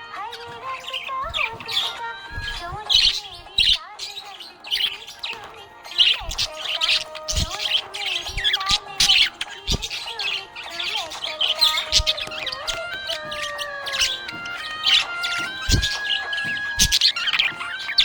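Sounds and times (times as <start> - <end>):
background music of held notes: 0.0 - 18.0
budgerigar chirping: 0.1 - 18.0.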